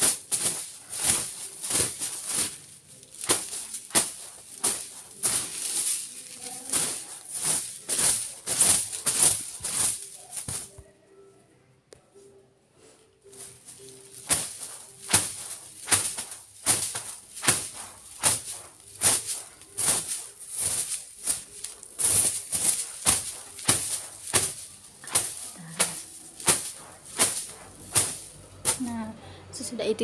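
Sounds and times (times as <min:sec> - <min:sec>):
broom swishing over a sheet: 0:00.0 - 0:10.8, 0:12.8 - 0:29.0.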